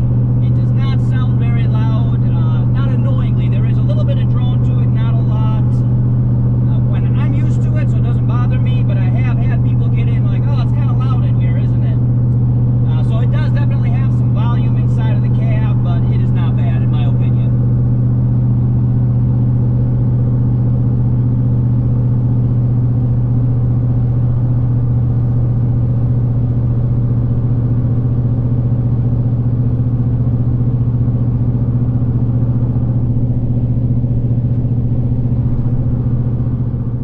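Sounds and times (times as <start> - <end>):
low exhaust note in truck cab: 0.0 - 37.0.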